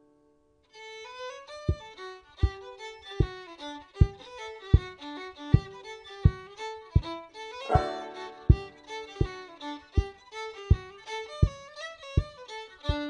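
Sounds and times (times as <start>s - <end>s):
lilting instrumental melody: 0.8s - 13.0s
steady low thump: 1.7s - 13.0s.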